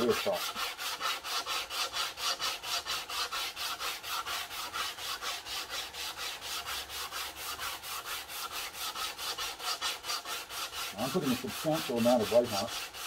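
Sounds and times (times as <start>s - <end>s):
sandpaper rubbing on wood: 0.0s - 13.0s.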